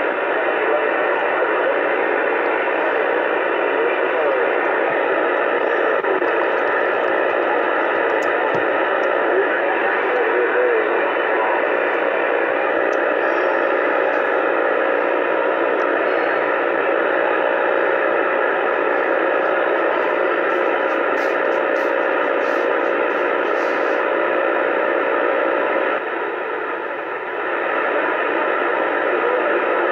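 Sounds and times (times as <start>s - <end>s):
faint steady tones: 0.0s - 29.9s
radio static hiss: 0.0s - 29.9s.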